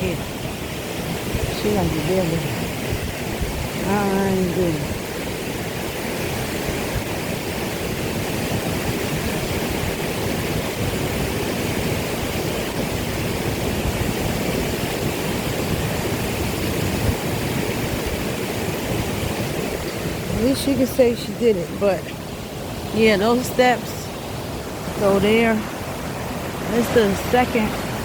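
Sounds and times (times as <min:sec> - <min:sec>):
waterfall crashing: 0:00.0 - 0:28.0.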